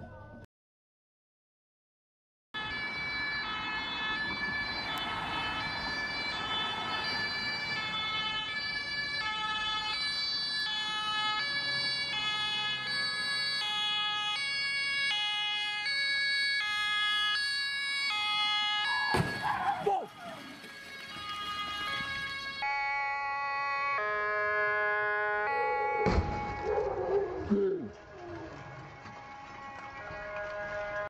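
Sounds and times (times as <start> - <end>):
traffic noise: 2.6 - 31.0
two-tone emergency siren: 2.6 - 31.0.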